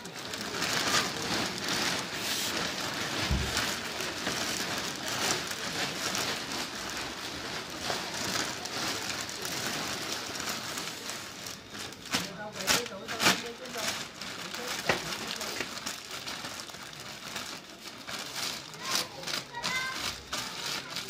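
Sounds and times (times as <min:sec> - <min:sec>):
plastic sheeting crinkling: 0:00.0 - 0:21.0.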